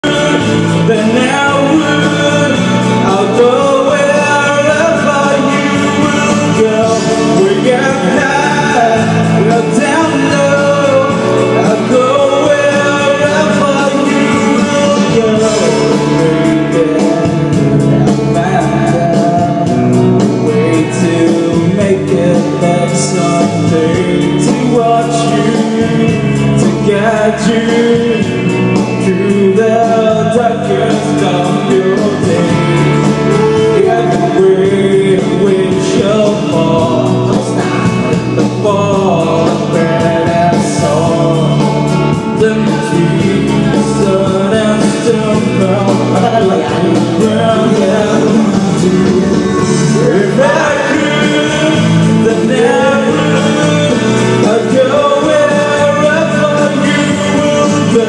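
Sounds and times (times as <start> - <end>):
instrumental backing music: 0.0 - 58.0
man singing into microphone: 0.0 - 58.0.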